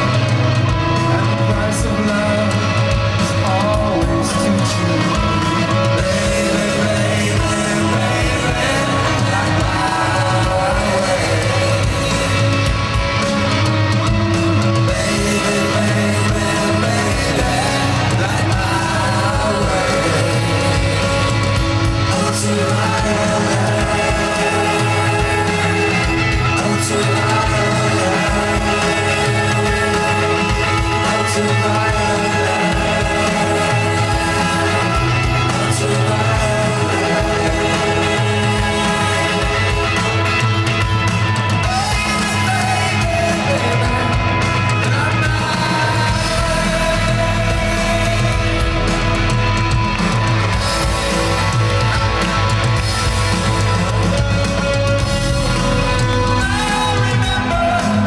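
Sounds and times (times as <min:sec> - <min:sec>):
person singing: 0:00.0 - 0:58.0
rock band playing live: 0:00.0 - 0:58.0.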